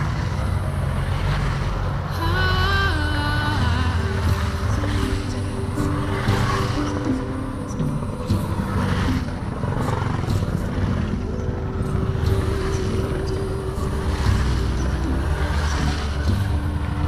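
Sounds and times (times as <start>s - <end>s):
motorcycle engines passing: 0.0s - 17.0s.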